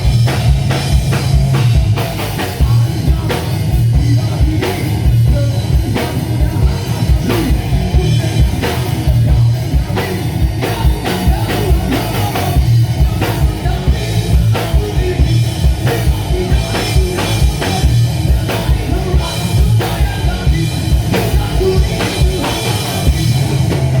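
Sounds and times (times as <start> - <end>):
drum kit hits: 0.0 - 24.0
live rock band playing: 0.0 - 24.0.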